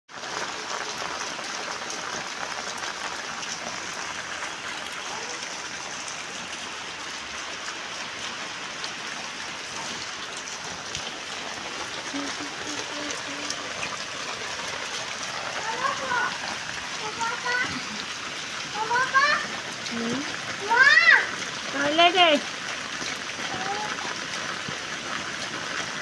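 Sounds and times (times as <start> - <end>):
rain on a tile floor: 0.1 - 26.0.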